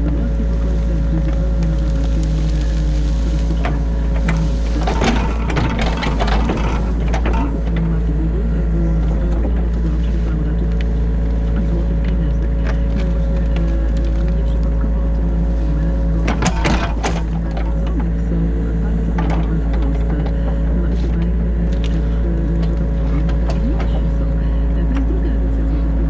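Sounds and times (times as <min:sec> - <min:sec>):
diesel engine droning: 0:00.0 - 0:26.0
hydraulic whine: 0:00.0 - 0:26.0
rattling clatter: 0:00.0 - 0:26.0.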